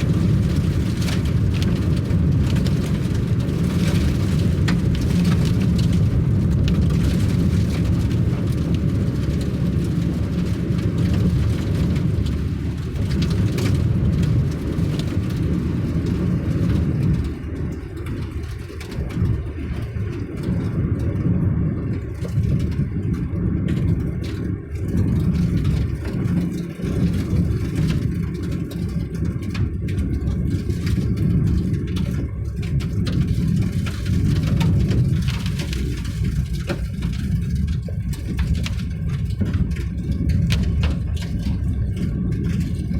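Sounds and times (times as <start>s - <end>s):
vehicle engine and tyre rumble: 0.0s - 42.9s.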